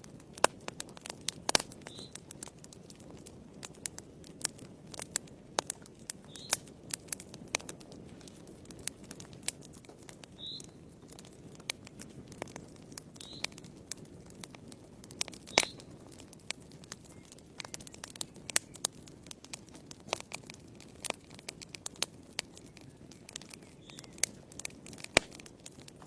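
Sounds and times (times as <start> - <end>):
fire crackling with pops: 0.0 - 26.0
low rumble of flames: 0.0 - 26.0.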